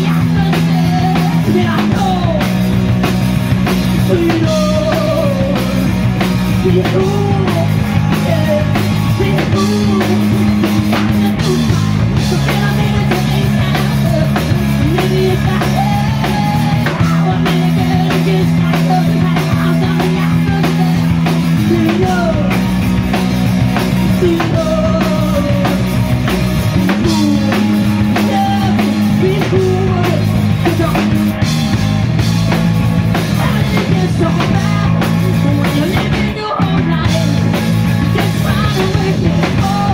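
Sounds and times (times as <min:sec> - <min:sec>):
person singing: 0:00.0 - 0:02.7, 0:03.8 - 0:22.8, 0:23.9 - 0:31.4, 0:33.1 - 0:39.9
drum kit: 0:00.0 - 0:39.9
electric bass: 0:00.0 - 0:39.9
electric guitar: 0:00.0 - 0:39.9.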